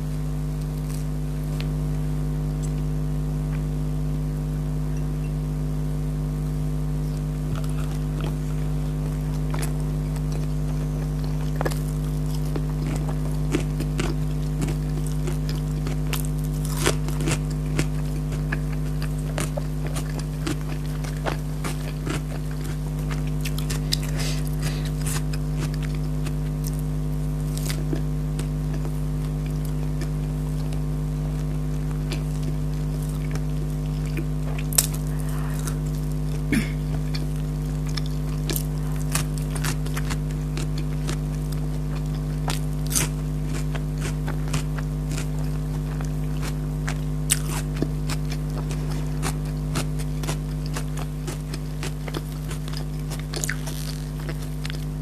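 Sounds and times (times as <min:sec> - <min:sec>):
steady low hum: 0:00.0 - 0:55.0
chewing with crunches: 0:07.0 - 0:55.0.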